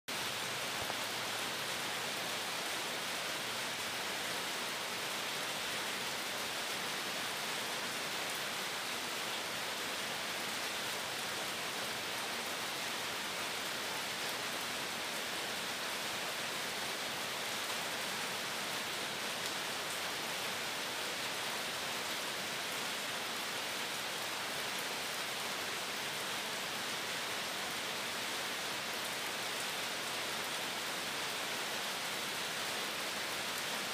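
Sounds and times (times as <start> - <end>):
steady hiss-like noise: 0.1 - 33.9.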